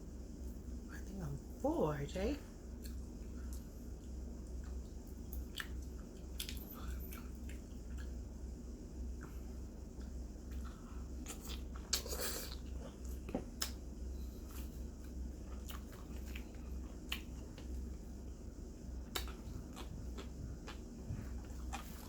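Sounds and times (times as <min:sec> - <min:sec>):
steady low hum: 0:00.0 - 0:22.0
person chewing: 0:02.8 - 0:08.4, 0:09.1 - 0:22.0.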